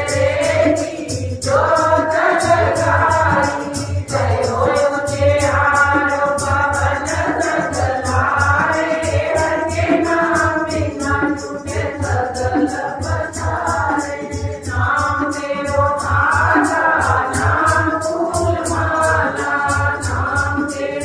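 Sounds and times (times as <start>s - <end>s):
jingling hand percussion: 0.0s - 21.0s
women singing a hymn: 0.0s - 21.0s.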